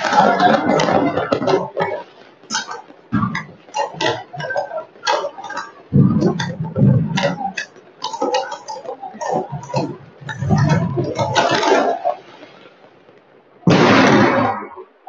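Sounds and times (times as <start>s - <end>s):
deep firework bangs: 0.0s - 12.2s, 13.6s - 14.8s
fireworks bangs and cracks: 0.0s - 14.8s.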